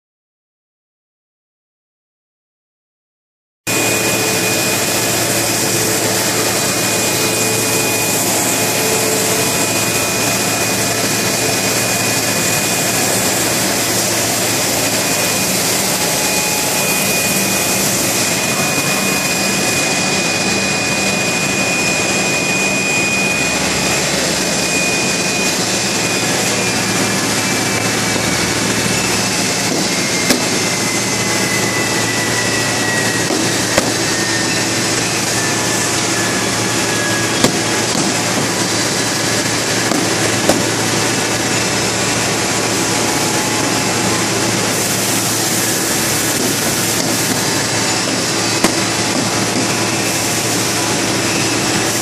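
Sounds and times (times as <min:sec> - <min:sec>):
thin high whine: 0:03.7 - 0:52.0
woodworking router running: 0:03.7 - 0:52.0.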